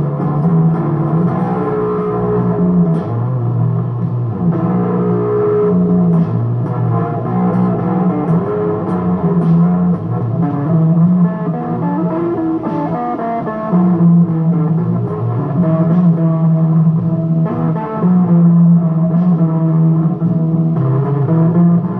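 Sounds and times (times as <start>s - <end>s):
electric guitar playing slow blues: 0.0s - 21.9s.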